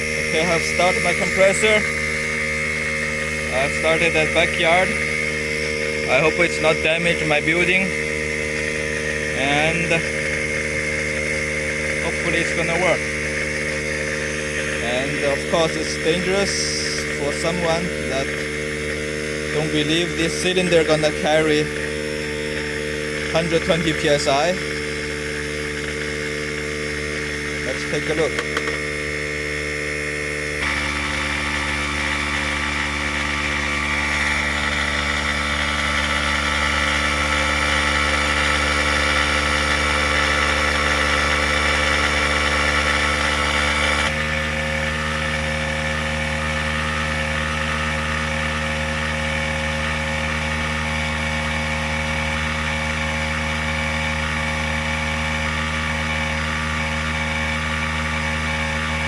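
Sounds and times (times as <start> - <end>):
electric air compressor running: 0.0 - 59.0.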